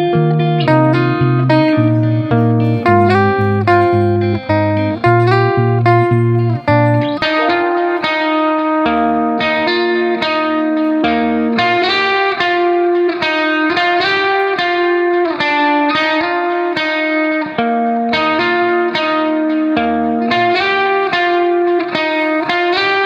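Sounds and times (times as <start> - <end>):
plucked guitar-like melody: 0.0 - 23.0.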